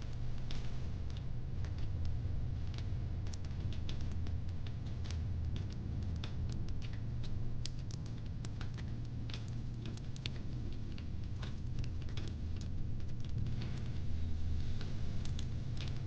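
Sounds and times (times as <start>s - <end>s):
low fire rumble: 0.0s - 16.0s
wood fire crackling: 0.1s - 16.0s.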